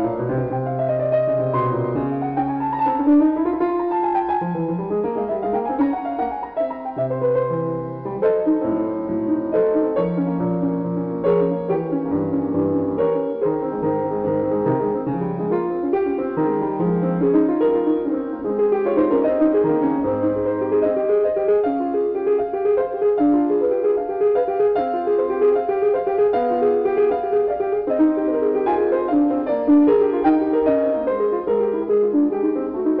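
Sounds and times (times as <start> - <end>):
background piano music: 0.0 - 33.0.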